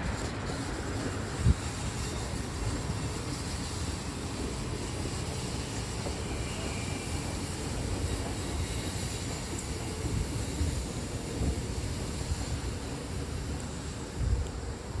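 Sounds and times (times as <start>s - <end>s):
electric train rumble and hiss: 0.0s - 15.0s.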